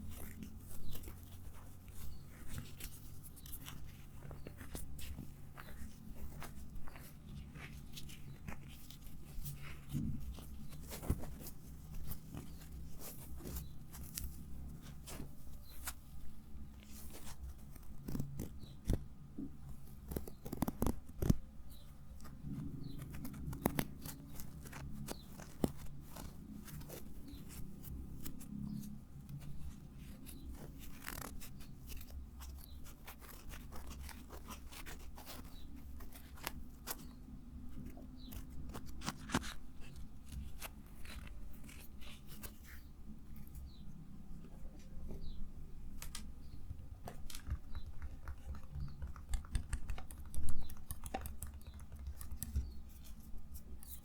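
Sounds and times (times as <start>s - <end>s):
small clicks snips and crackles: 0.1s - 16.2s, 16.8s - 43.8s, 44.4s - 54.0s.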